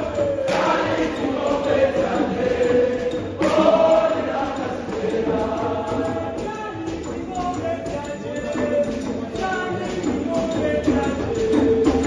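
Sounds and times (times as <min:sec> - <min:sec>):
group singing in chorus: 0:00.0 - 0:12.0.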